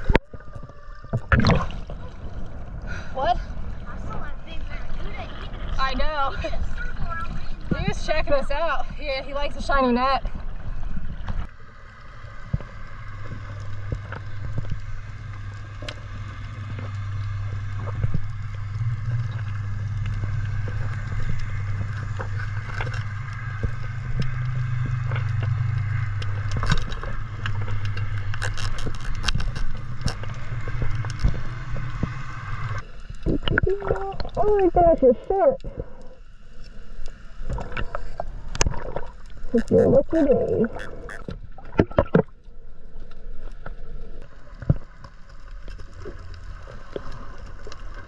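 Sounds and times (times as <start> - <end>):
low underwater drone: 0.0 - 48.0
sharp underwater clicks and crackles: 0.0 - 48.0.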